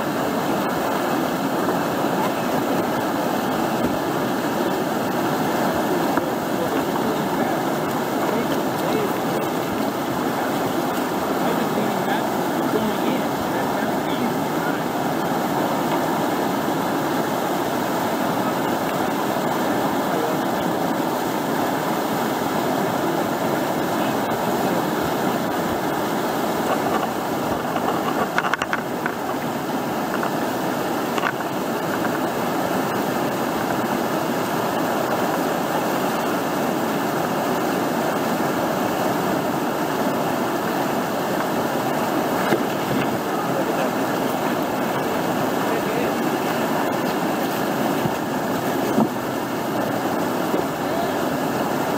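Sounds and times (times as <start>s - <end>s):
whitewater rushing over a ledge: 0.0s - 51.9s.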